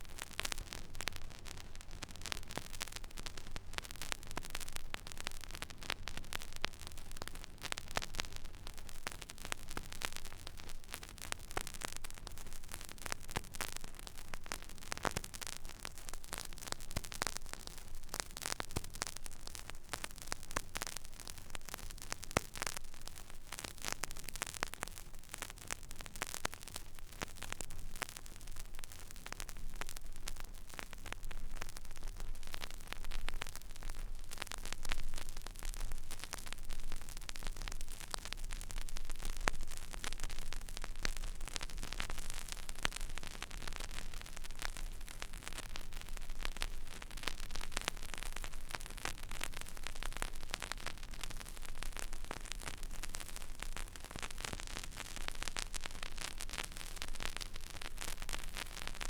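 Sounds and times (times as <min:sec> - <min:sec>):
vinyl surface hiss and crackle: 0:00.0 - 0:59.0.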